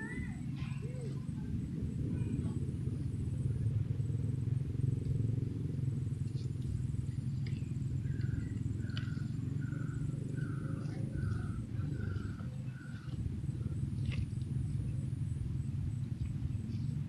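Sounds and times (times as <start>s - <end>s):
motorcycle rumble: 0.0s - 17.0s
wind on microphone: 0.0s - 17.0s.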